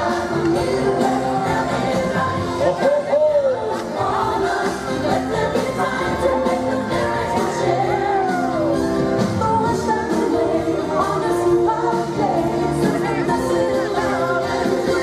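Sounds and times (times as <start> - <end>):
pop song with sung vocals: 0.0 - 15.0.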